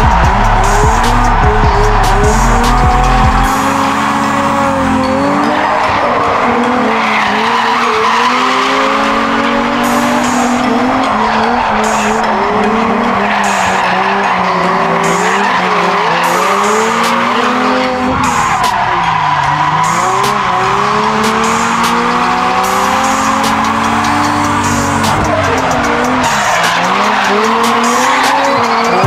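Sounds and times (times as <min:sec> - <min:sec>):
car engine revving: 0:00.0 - 0:29.0
tyres squealing: 0:00.0 - 0:29.0.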